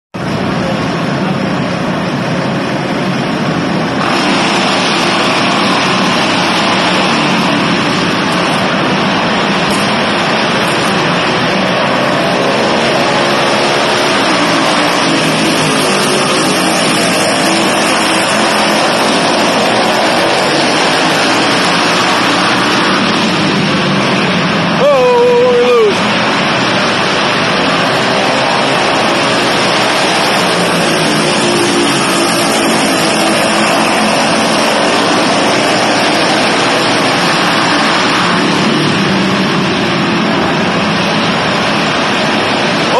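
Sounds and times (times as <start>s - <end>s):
minibike engines racing: 0.2s - 42.9s.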